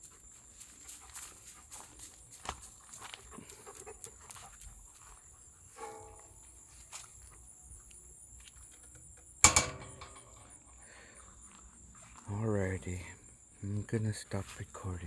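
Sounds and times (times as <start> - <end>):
crickets trilling: 2.1 - 15.0.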